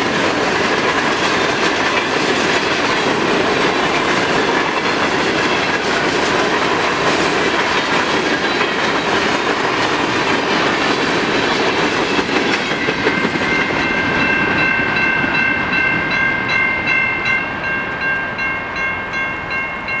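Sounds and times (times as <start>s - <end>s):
train wheels clacking over rail joints: 0.0s - 16.1s.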